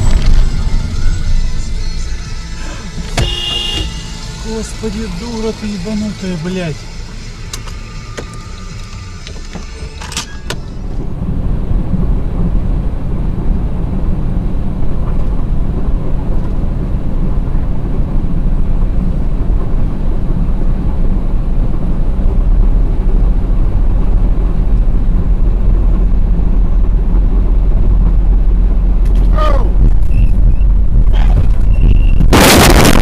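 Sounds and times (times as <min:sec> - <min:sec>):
car driving road and engine noise: 0:00.0 - 0:33.0.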